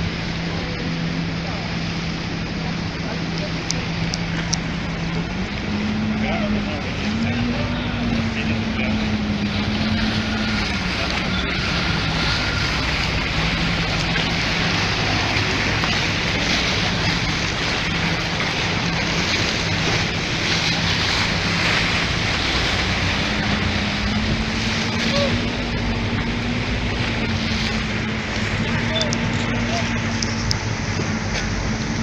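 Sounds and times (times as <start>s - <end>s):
motorboat engine running: 0.0s - 32.0s
water rushing: 0.0s - 32.0s.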